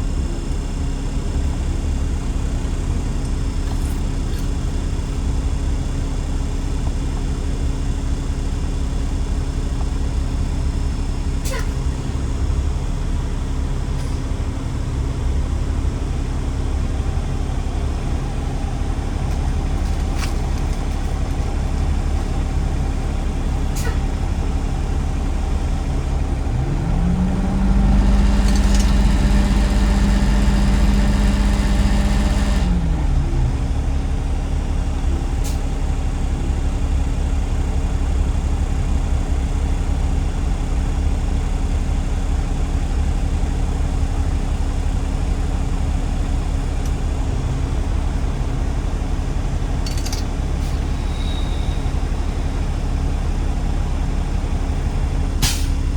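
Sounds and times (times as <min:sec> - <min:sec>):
garbage truck engine rumbling: 0:00.0 - 0:55.9.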